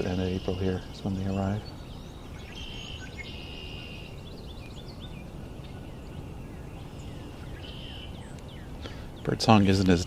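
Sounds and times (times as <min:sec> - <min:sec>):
birdsong: 0:00.0 - 0:10.0.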